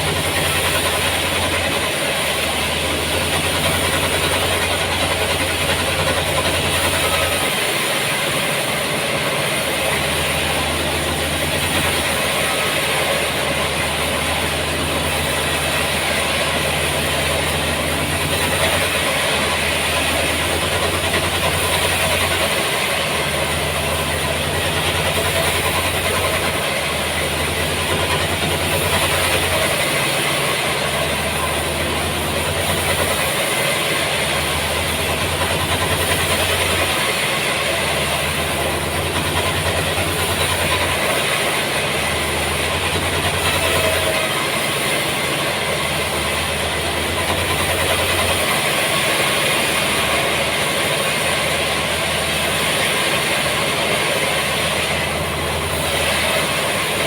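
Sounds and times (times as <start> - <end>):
sawmill engine hum: 0.0 - 57.0.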